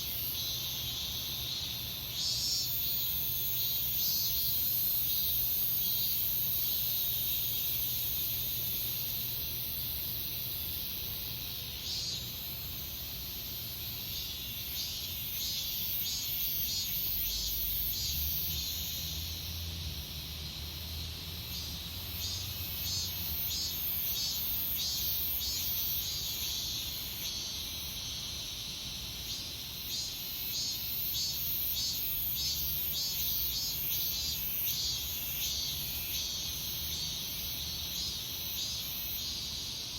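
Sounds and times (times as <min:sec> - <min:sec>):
cicadas droning: 0:00.0 - 0:39.9
pulsing cicada call: 0:00.0 - 0:39.9.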